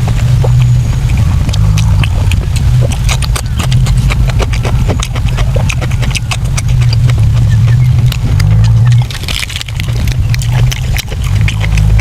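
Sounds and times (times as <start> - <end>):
chewing and lip-smacking: 0.0 - 12.0
low hum: 0.0 - 12.0.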